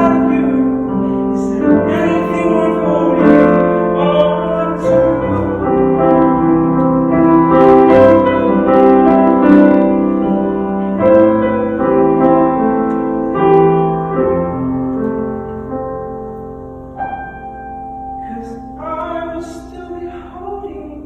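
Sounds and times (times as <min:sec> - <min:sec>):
piano playing chords: 0:00.0 - 0:21.0.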